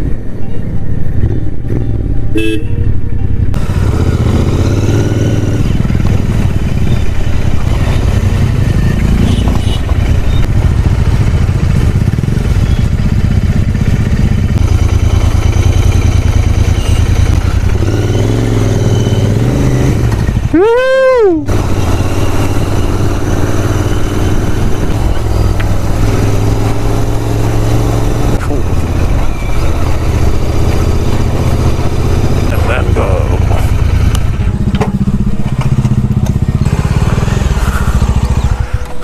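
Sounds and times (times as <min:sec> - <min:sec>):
motorcycle engine running: 0:00.9 - 0:39.0.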